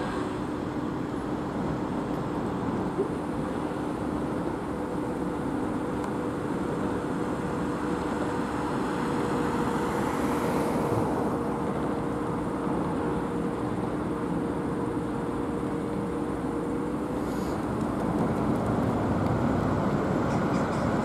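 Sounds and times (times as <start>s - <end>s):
steady two-tone mechanical hum: 0.0s - 21.0s
street traffic: 0.0s - 21.0s.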